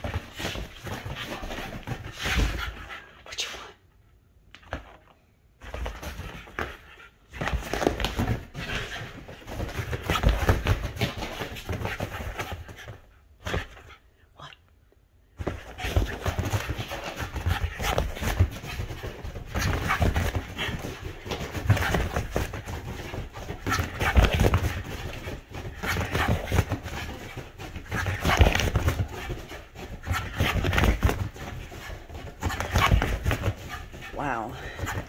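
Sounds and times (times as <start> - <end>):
dog paws thumping and scrabbling: 0.0 - 3.4, 4.6 - 14.0, 15.4 - 35.0.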